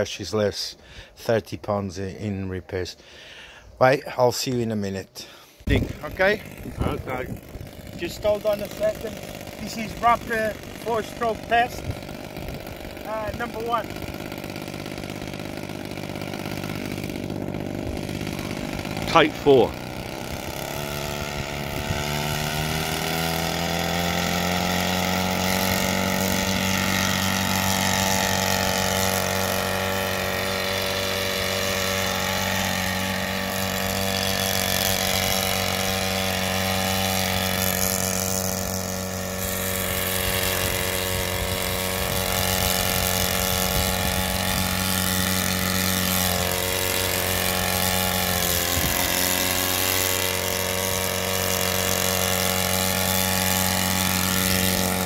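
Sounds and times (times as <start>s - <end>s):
model helicopter engine running: 5.6s - 55.0s.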